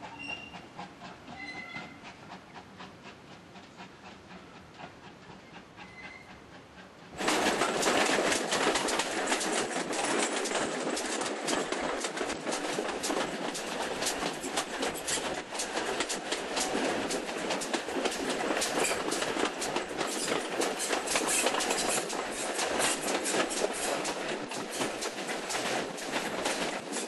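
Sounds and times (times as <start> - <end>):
steam train wheels clattering: 0.0 - 27.0.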